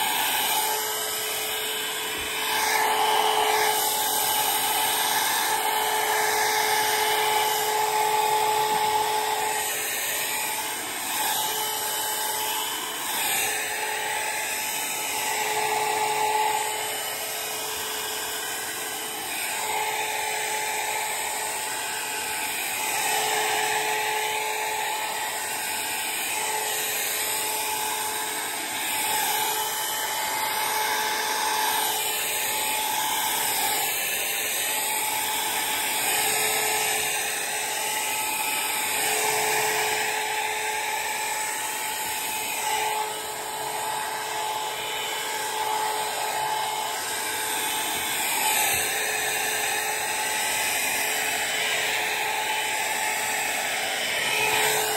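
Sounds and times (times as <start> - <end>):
hot air brush fan whine: 0.0 - 54.9.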